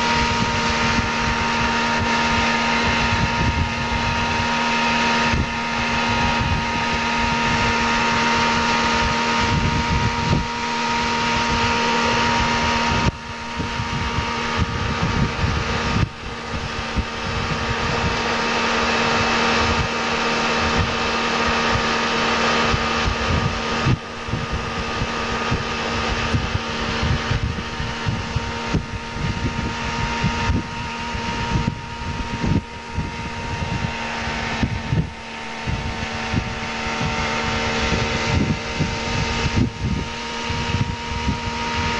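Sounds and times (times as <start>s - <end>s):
outboard motor running: 0.0s - 41.9s
wind buffeting microphone: 0.0s - 41.9s.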